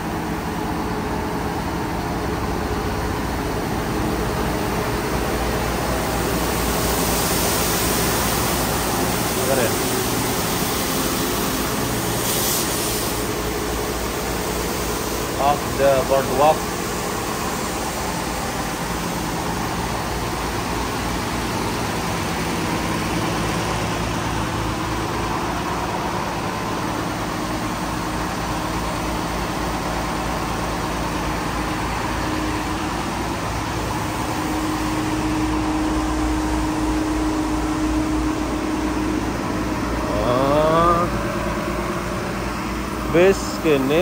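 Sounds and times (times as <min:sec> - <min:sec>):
bus engine idling: 0:00.0 - 0:44.0.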